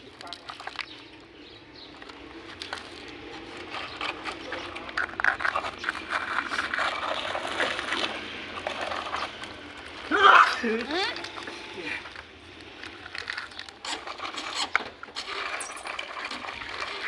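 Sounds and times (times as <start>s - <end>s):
plastic toy cars scraping and clicking: 0.0s - 17.0s.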